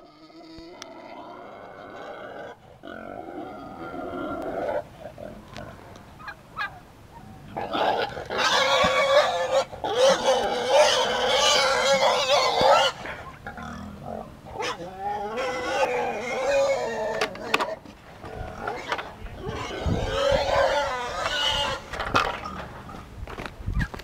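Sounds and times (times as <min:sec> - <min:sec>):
pig squealing: 0:00.0 - 0:05.4, 0:06.2 - 0:22.6.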